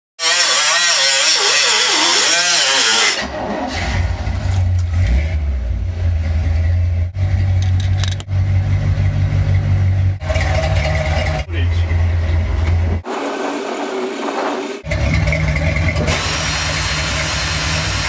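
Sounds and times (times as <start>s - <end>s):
truck engine running: 2.7s - 18.0s.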